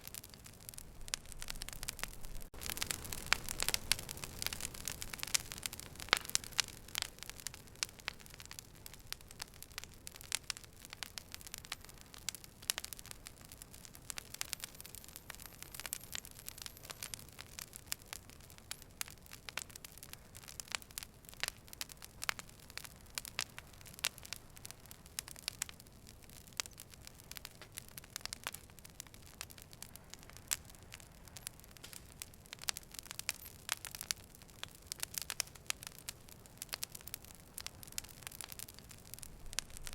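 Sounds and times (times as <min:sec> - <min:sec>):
faint low hiss: 0:00.0 - 0:39.9
wood fire crackling and popping: 0:00.0 - 0:39.9.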